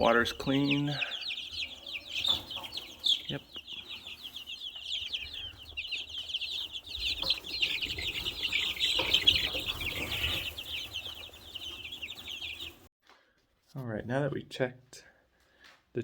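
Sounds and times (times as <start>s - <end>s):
chickens peeping: 0.0s - 12.9s.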